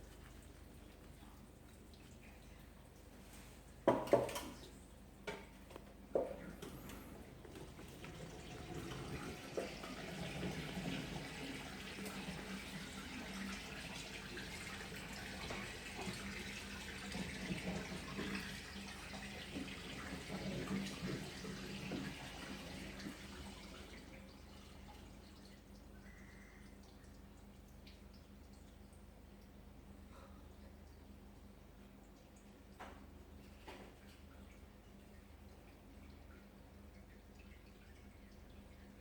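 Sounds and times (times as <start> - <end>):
water filling washing machine tub: 0.0 - 29.9, 31.3 - 39.0.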